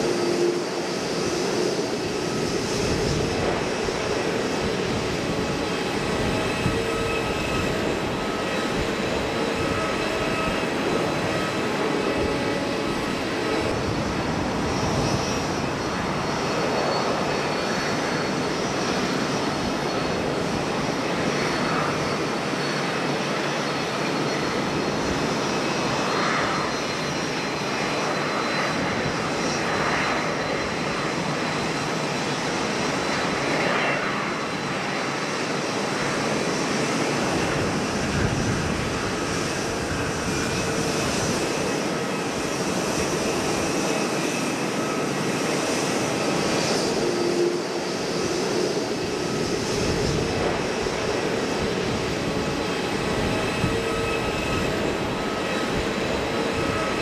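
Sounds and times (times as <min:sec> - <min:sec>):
distant jet engines running: 0:00.0 - 0:57.0.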